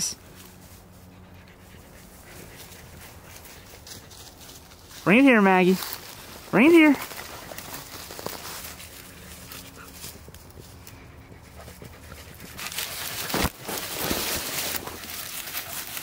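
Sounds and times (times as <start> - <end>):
rustling and brushing: 0.0 - 5.1, 5.7 - 16.0
dogs panting: 0.2 - 16.0.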